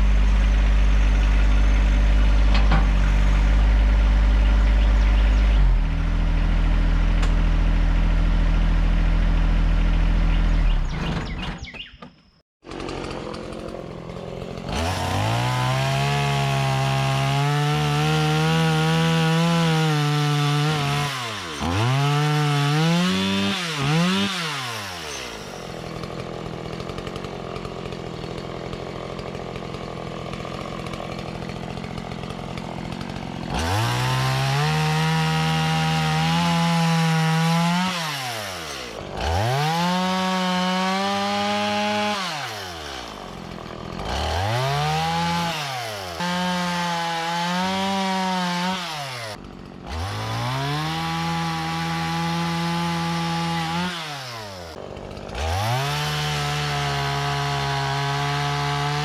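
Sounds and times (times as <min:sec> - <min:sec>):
chainsaw cutting log: 0:00.0 - 0:11.6, 0:12.6 - 0:59.0.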